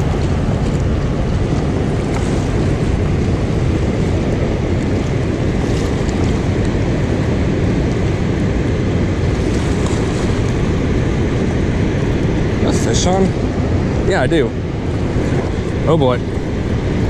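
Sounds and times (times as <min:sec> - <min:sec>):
water rushing through spillway: 0:00.0 - 0:17.0
wind buffeting microphone: 0:00.0 - 0:17.0.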